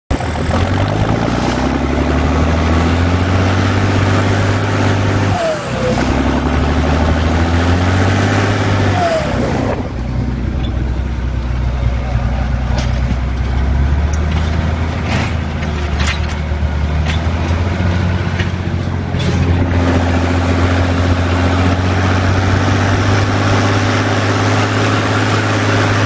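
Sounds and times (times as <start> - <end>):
tractor engine under load: 0.1 - 26.0.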